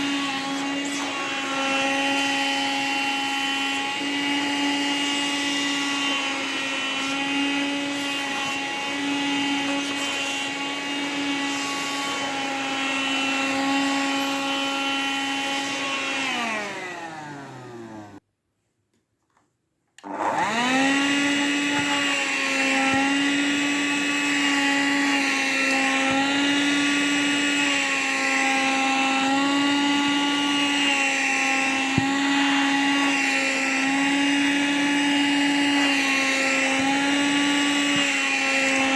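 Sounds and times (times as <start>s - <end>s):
vacuum cleaner motor whine: 0.0s - 18.2s, 20.0s - 38.9s.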